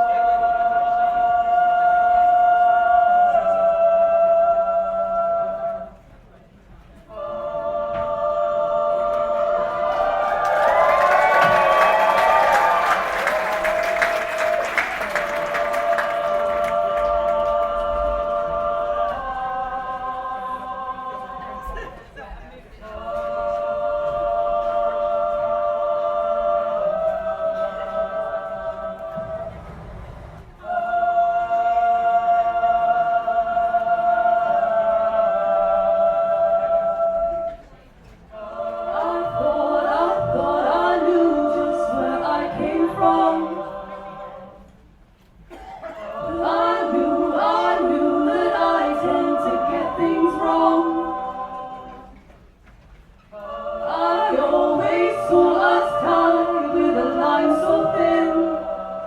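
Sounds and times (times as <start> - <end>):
choir singing: 0.0 - 6.3, 6.9 - 59.0.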